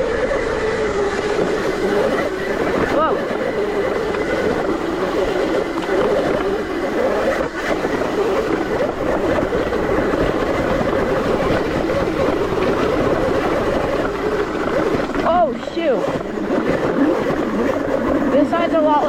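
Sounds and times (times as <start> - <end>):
electric motorbike motor whining: 0.0 - 19.0
wind and tyres on dirt: 0.0 - 19.0.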